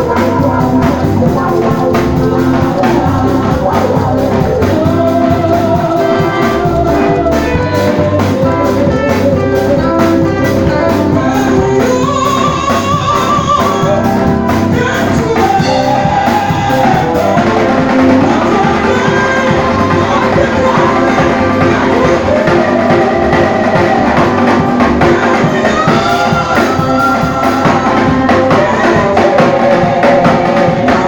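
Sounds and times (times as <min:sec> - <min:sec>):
church band playing gospel music: 0:00.0 - 0:31.0
person singing: 0:00.0 - 0:31.0
steady drum beat: 0:00.0 - 0:31.0.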